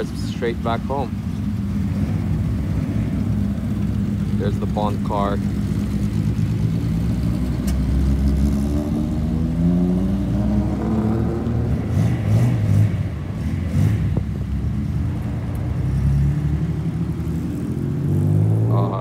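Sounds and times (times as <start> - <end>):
car engine rolling by: 0.0 - 19.0
car pulling away revving: 0.0 - 19.0.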